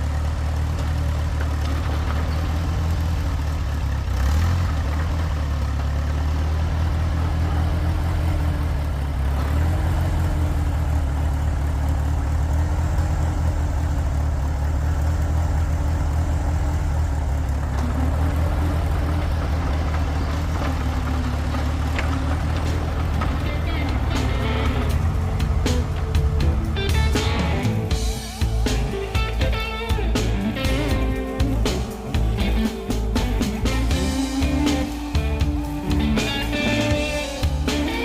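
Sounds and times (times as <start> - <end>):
crawler engine rumbling: 0.0 - 38.0.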